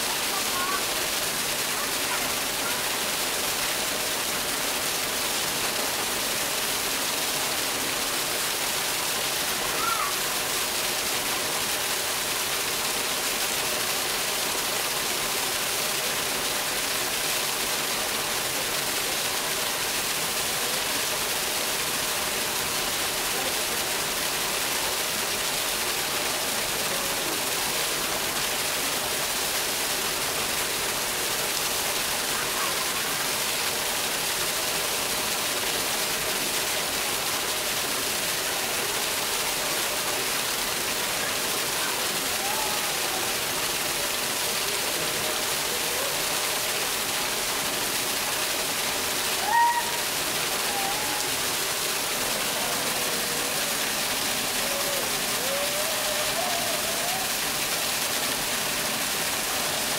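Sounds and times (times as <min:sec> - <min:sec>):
water falling into a pool: 0:00.0 - 0:59.9.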